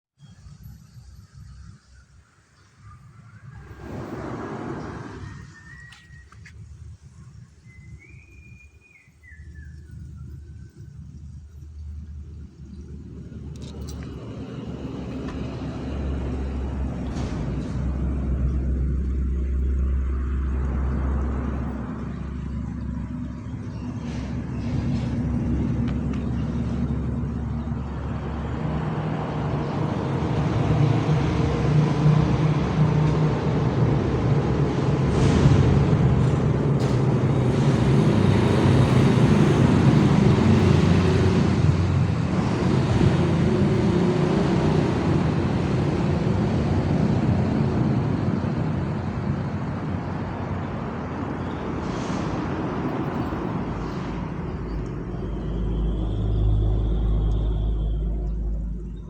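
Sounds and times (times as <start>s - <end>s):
engine running with rushing rumble: 0.2s - 59.0s.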